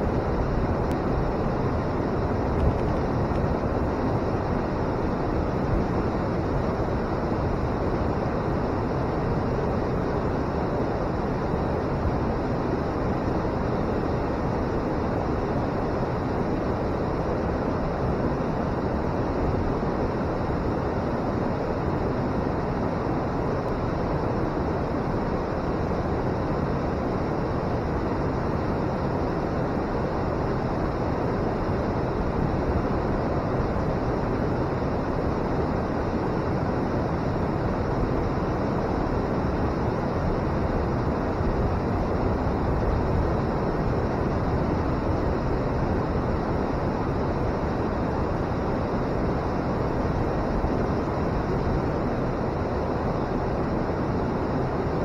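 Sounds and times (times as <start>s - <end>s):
river water roaring over weir: 0.0s - 55.0s.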